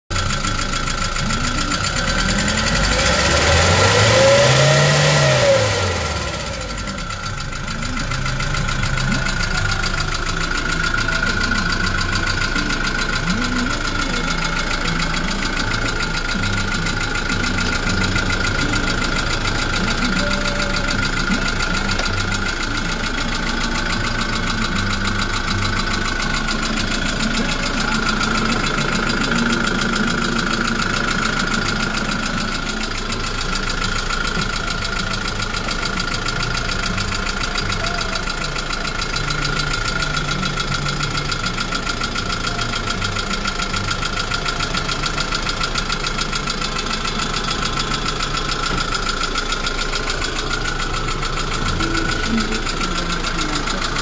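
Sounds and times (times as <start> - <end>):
diesel truck engine idling and revving: 0.0 - 54.0.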